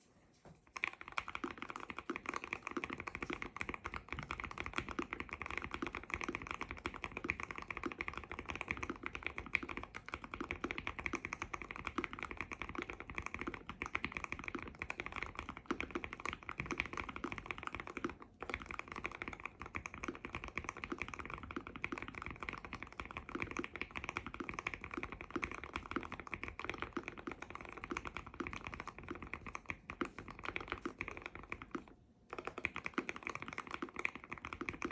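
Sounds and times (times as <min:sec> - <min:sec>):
fast mechanical keyboard typing: 0:00.8 - 0:34.9.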